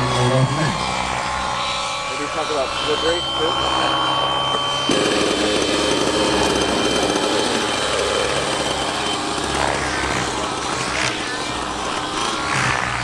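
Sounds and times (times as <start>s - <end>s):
small engine idling buzz: 0.0s - 13.0s.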